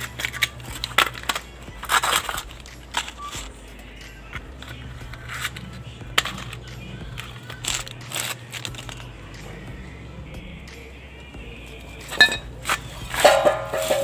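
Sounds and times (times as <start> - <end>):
hands scraping and knocking on hub: 0.0 - 9.8, 11.9 - 14.0
steady low hum: 0.0 - 14.0.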